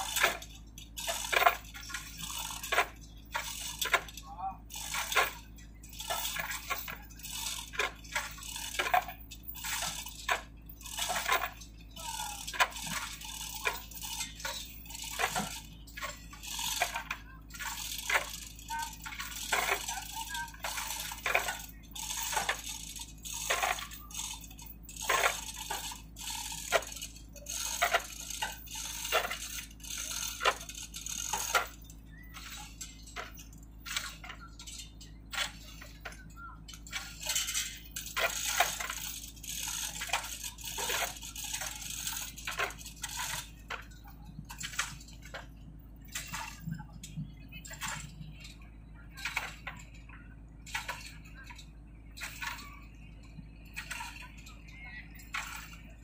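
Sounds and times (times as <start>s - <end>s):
chain hoist rattling: 0.0s - 56.0s.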